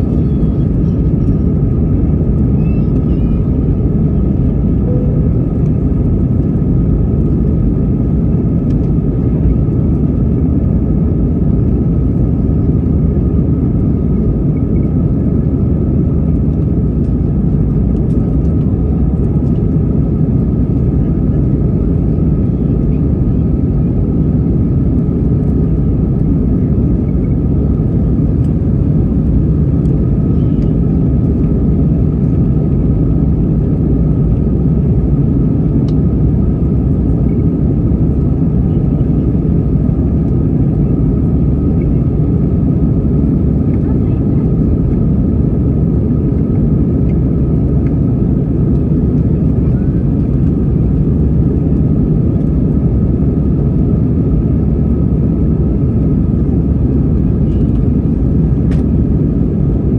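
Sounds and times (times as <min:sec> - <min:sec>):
aircraft engine and airflow rumble: 0:00.0 - 0:59.9.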